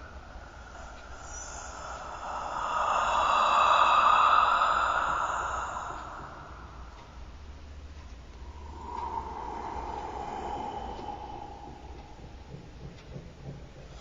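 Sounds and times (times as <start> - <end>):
eerie breathy whisper: 0.0 - 14.0.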